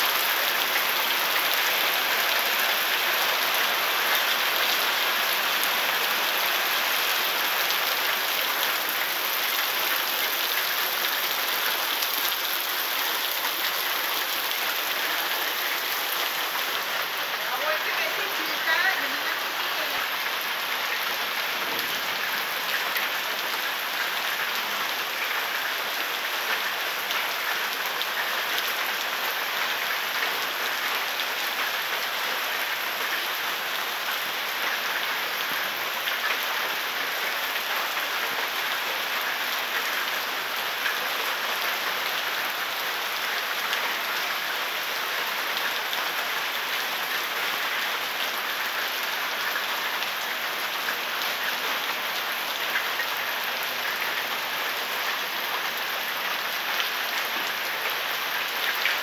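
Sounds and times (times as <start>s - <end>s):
heavy rain on concrete: 0.0s - 59.0s.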